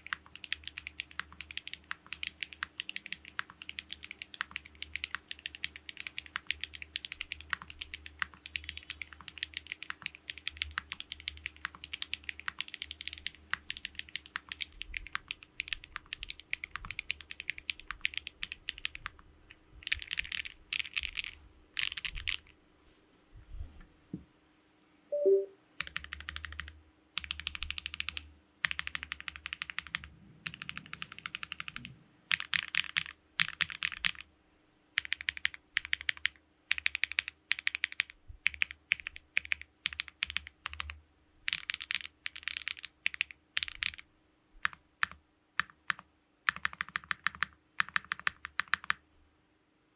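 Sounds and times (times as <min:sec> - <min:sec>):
mechanical keyboard typing: 0:00.0 - 0:19.2, 0:19.8 - 0:22.4, 0:25.1 - 0:34.3, 0:35.0 - 0:49.0.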